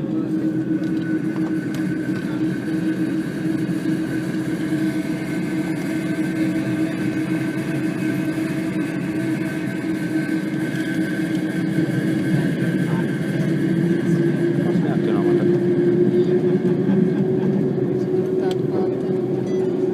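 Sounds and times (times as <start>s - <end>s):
jet engines droning in cabin: 0.0s - 19.9s.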